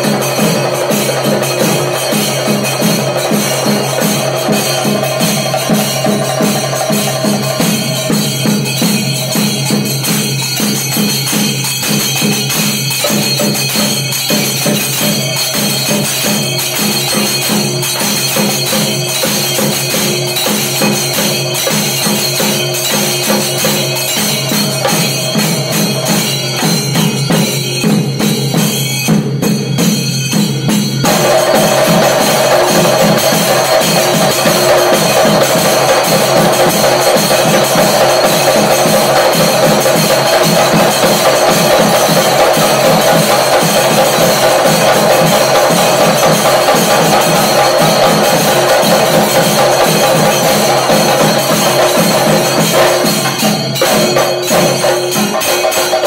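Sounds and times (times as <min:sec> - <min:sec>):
drums beaten with sticks: 0:00.0 - 0:56.0
hand cymbals clashing: 0:00.0 - 0:56.0.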